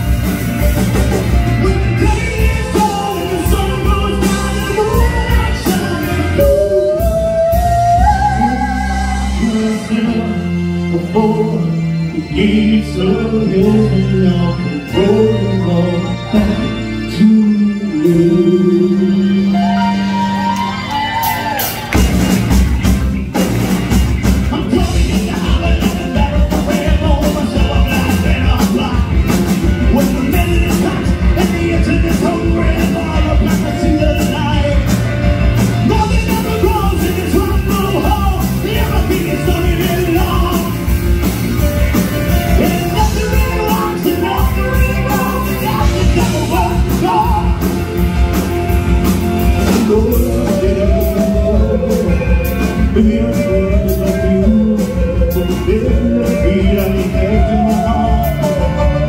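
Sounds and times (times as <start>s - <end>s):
drums keeping a steady beat: 0.0s - 9.6s, 21.2s - 59.0s
live rock band playing: 0.0s - 59.0s.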